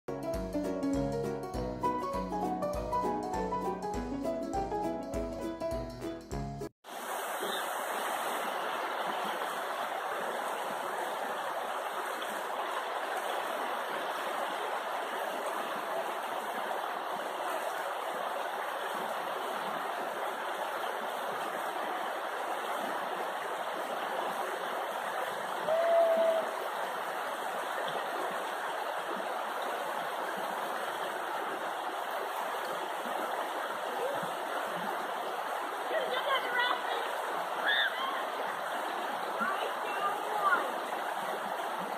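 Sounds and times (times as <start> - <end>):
river water over rapids: 6.9 - 41.9.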